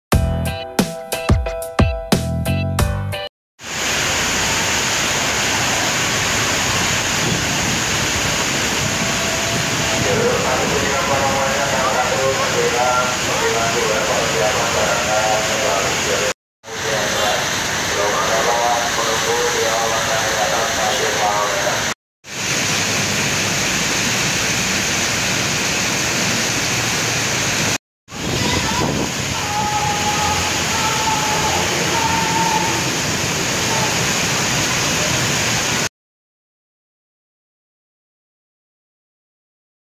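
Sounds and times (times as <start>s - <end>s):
heavy rain on street: 3.6s - 35.9s.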